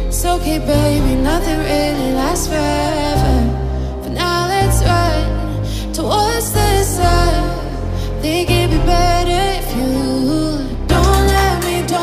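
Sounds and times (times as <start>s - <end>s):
sliding melody over steady bass: 0.0s - 12.0s.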